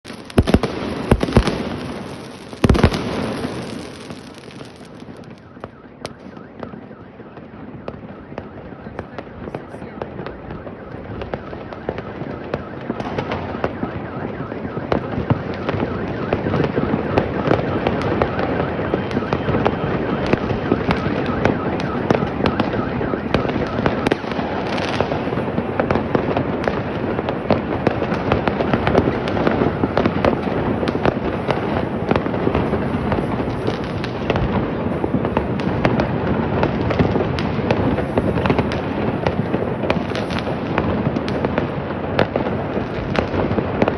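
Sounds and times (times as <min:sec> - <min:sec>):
fireworks crackling and banging: 0:00.0 - 0:43.9.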